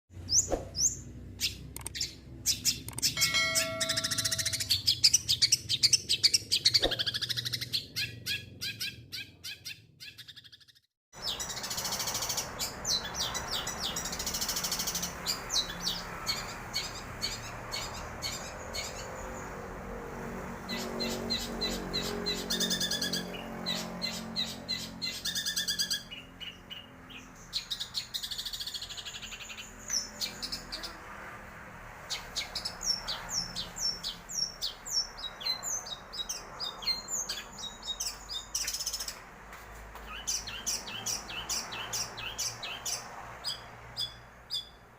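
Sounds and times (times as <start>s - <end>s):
shrike singing chirps and trills: 0.2s - 19.6s, 20.6s - 31.2s, 32.0s - 39.2s, 40.1s - 44.8s.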